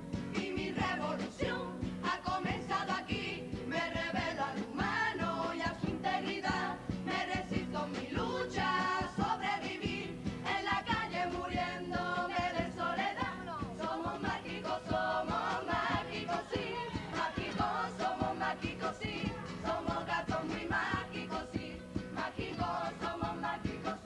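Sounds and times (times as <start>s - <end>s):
instrumental music: 0.0s - 24.0s
steady drum beat: 0.0s - 24.0s
chorus singing in harmony: 0.2s - 24.0s.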